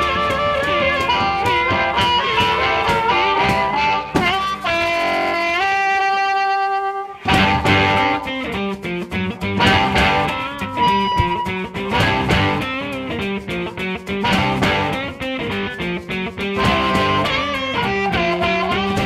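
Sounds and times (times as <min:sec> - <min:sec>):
electric guitar over bass and beat: 0:00.0 - 0:19.0.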